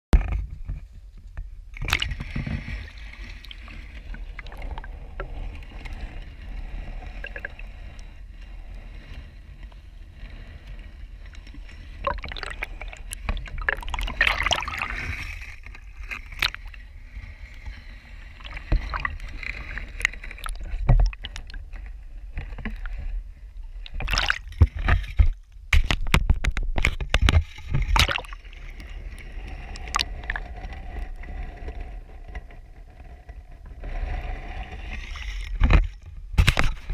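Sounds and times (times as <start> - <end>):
water sloshing and gurgling: 0.2 - 36.9.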